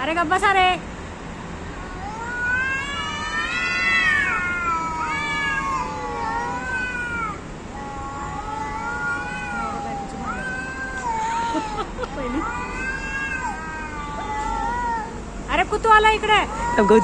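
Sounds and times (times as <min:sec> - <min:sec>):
cats yowling: 0:01.7 - 0:15.4, 0:16.0 - 0:17.0.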